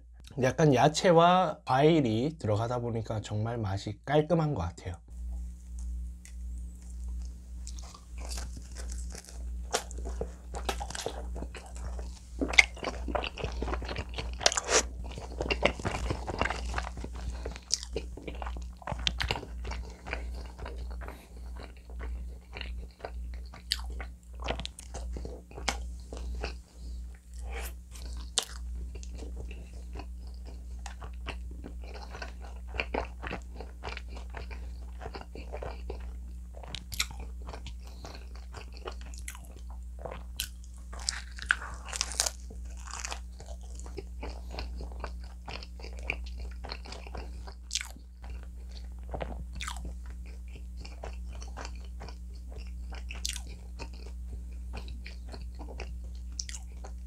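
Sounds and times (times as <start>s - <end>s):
low steady hum: 0.0s - 57.0s
chewing pizza crust: 5.7s - 57.0s.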